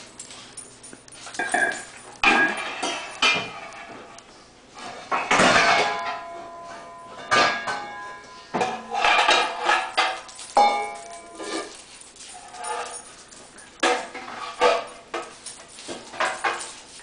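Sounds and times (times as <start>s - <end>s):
dogs scuffling and playing: 0.0s - 7.6s, 8.2s - 17.0s.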